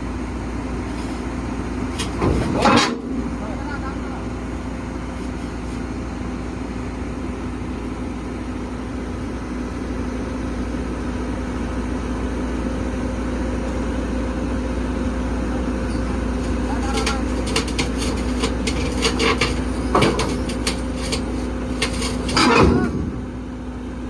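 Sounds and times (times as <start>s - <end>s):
excavator diesel engine running: 0.1s - 8.8s, 13.2s - 24.0s.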